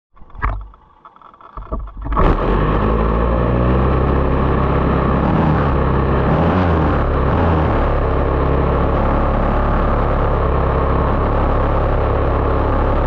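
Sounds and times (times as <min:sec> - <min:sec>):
small two-stroke engine idling: 0:02.4 - 0:13.0.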